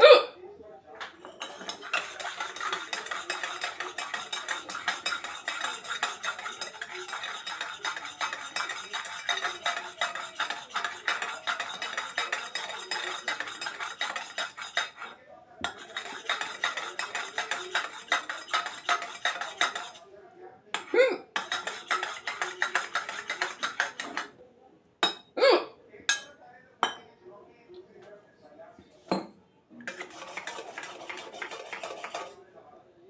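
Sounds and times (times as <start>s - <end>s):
cutlery clinking against dishes: 1.0s - 20.1s, 20.8s - 24.4s, 25.0s - 27.1s, 29.1s - 32.4s.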